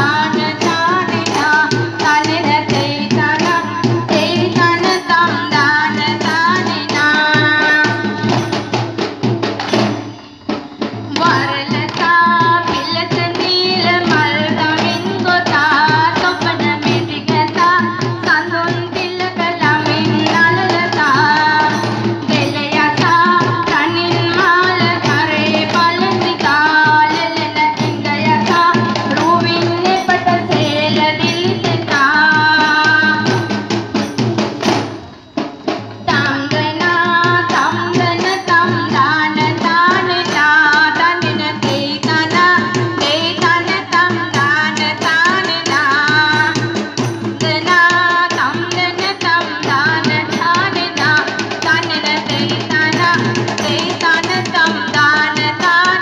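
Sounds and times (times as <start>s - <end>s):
hand-drum beats: 0.0s - 56.0s
high voices singing: 0.0s - 56.0s.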